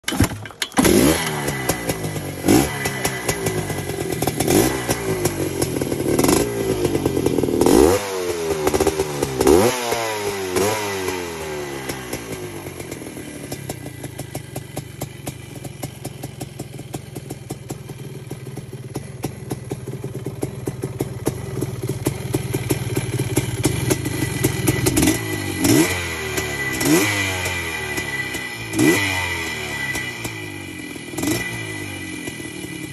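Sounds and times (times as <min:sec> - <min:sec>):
two-stroke engine throttle blips: 0:00.0 - 0:32.9.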